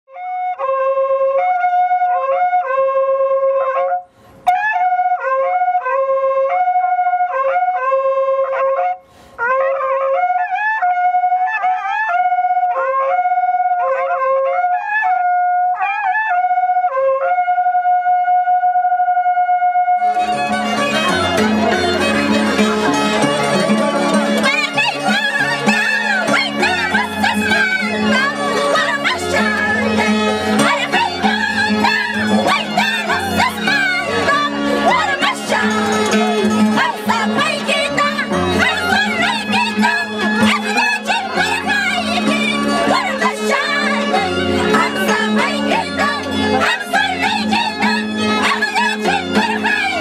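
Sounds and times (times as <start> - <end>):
wind instrument slow melody: 0.1 - 50.0.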